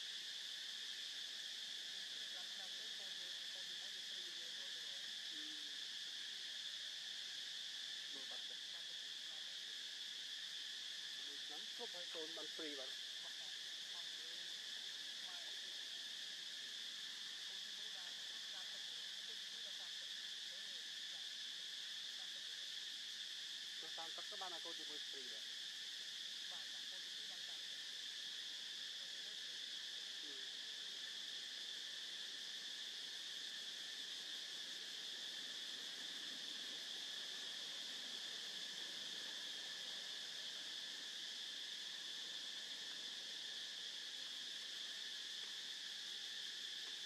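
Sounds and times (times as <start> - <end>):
insect chorus drone: 0.0 - 47.0.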